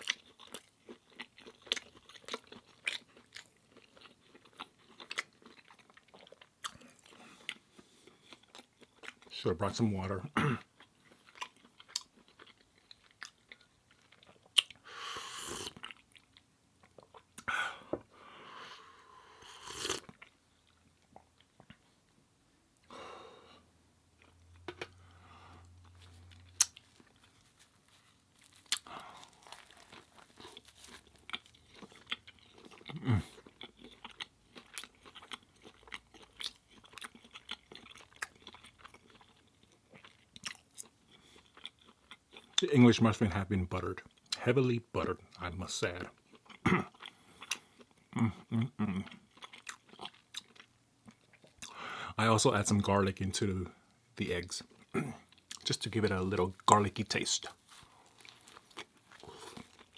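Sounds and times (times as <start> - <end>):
man chewing food: 0.0 - 9.4, 10.5 - 42.6, 45.2 - 51.9, 53.7 - 59.9.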